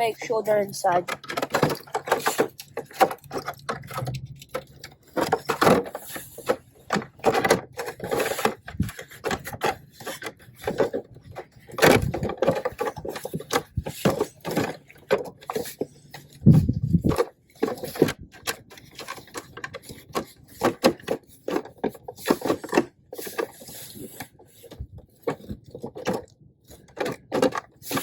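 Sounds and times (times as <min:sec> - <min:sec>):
plastic parts knocking and scraping: 0:00.0 - 0:28.0.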